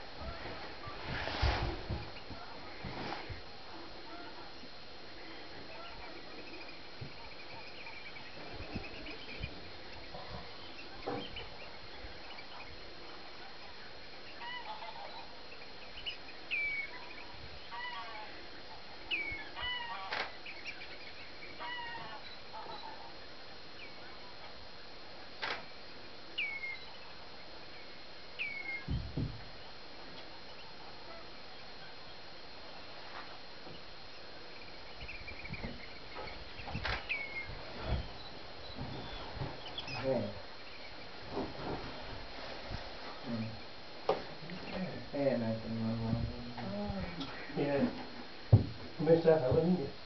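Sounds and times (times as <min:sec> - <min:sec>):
faint high whine: 0:00.0 - 0:50.0
steady hiss: 0:00.0 - 0:50.0
wild birds calling: 0:00.0 - 0:50.0.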